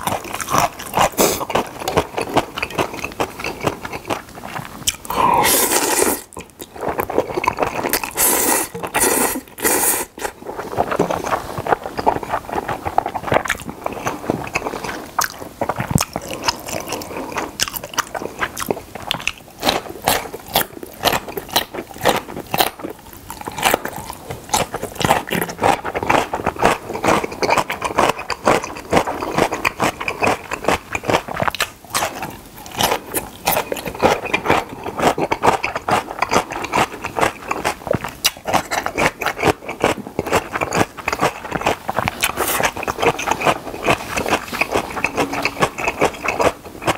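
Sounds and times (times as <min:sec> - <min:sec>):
noodles slurped loudly: 0:00.0 - 0:22.9, 0:23.5 - 0:46.9
crunching and chewing pickles: 0:00.0 - 0:46.9.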